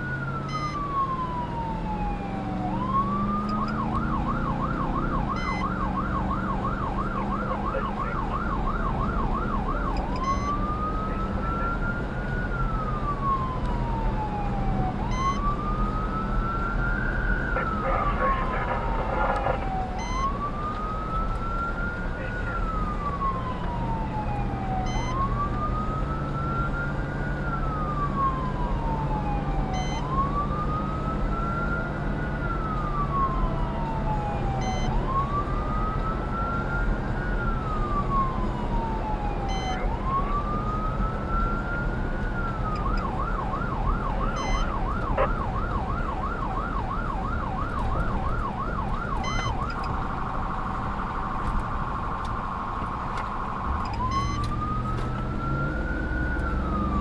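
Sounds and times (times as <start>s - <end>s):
electronic siren wailing and yelping: 0.0s - 50.2s, 53.4s - 57.0s
vehicle engine and road noise: 0.0s - 57.0s.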